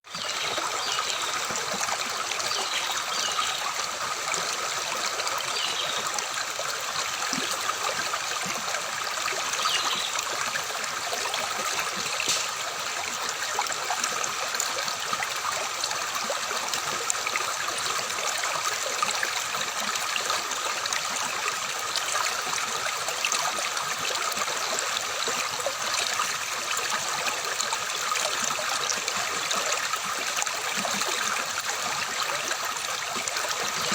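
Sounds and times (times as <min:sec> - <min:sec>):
water babbling and trickling: 0:00.0 - 0:33.9.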